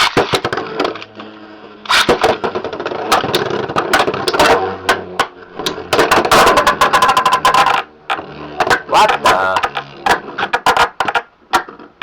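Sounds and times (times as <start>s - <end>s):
spinning tops whirring: 0.0s - 11.2s.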